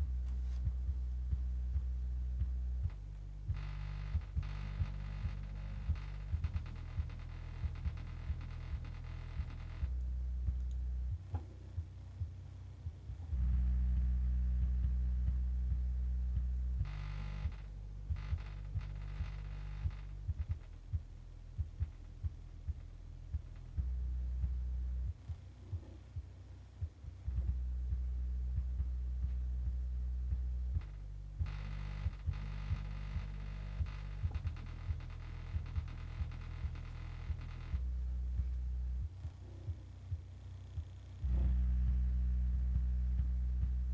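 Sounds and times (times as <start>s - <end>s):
deep bass notes through speakers: 0.0s - 43.9s.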